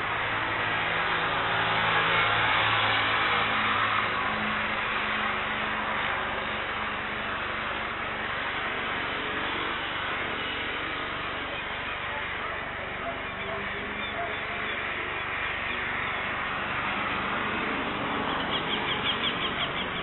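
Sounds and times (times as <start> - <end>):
jet engines roaring at takeoff: 0.0 - 20.0.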